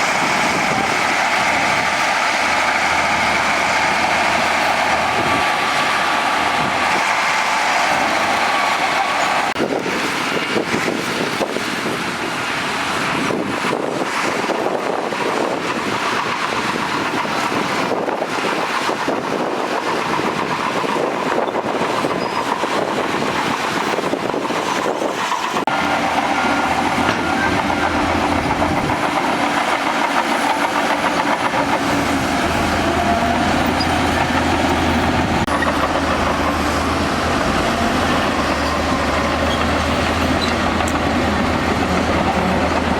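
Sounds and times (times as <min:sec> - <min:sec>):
bulldozer diesel engine: 0:00.0 - 0:42.9
steel tracks clattering and squealing: 0:00.0 - 0:42.9.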